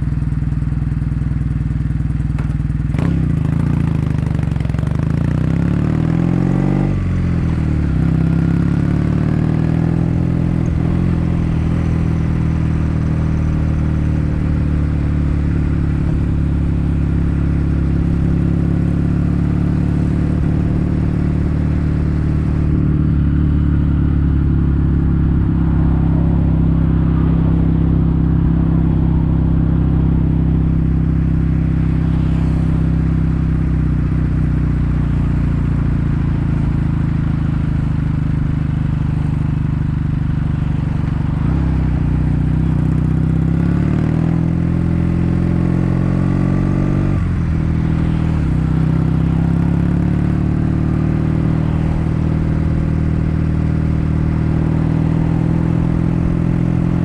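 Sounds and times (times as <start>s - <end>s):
motorcycle engine exhaust: 0.0s - 57.0s.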